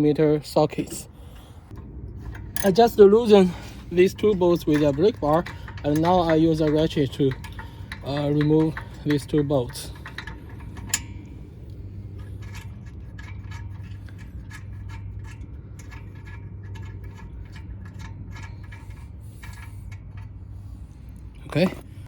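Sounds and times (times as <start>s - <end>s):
hand ratchet clicking: 1.7s - 20.4s.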